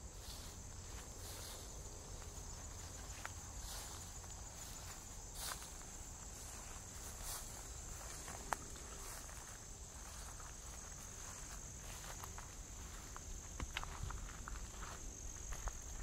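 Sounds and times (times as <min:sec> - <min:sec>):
crickets chirping: 0:00.0 - 0:16.0
footsteps in woodland: 0:00.0 - 0:16.0.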